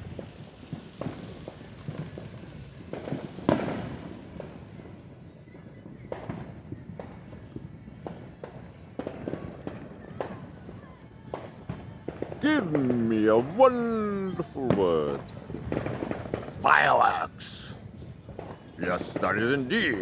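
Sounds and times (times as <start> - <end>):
fireworks bangs and pops: 0.0 - 20.0.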